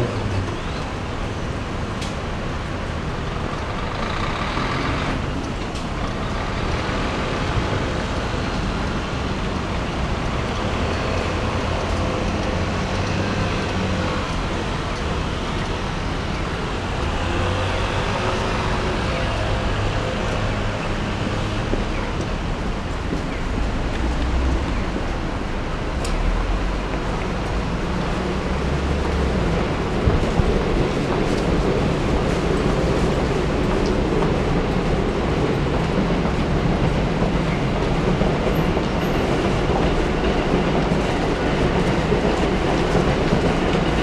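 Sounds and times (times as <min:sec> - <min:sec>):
car and bus engines: 0:00.0 - 0:44.0
tyres on road: 0:00.0 - 0:44.0.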